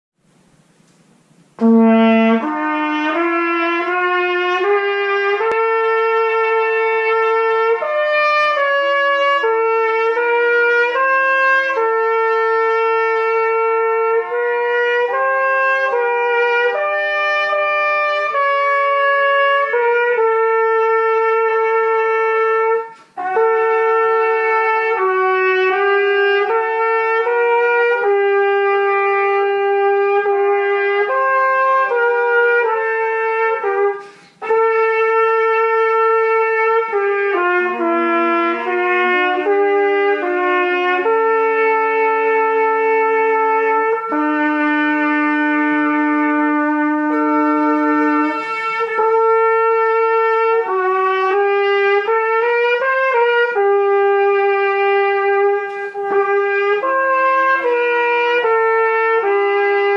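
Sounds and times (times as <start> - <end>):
solo trumpet slow melody: 0.2 - 59.9.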